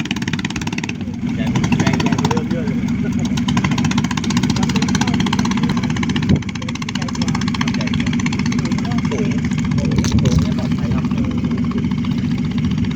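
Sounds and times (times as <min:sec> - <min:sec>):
boat engine running: 0:00.0 - 0:12.9.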